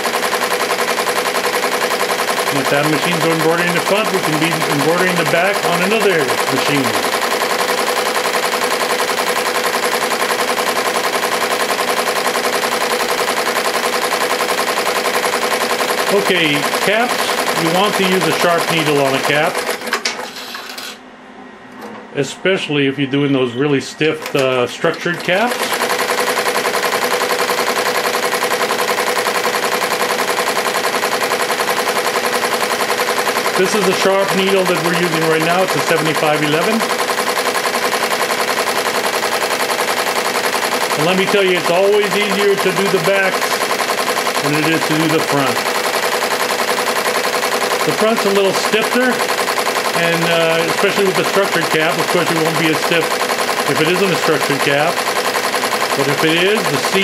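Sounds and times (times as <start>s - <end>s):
embroidery machine stitching: 0.0s - 21.0s, 24.0s - 57.0s.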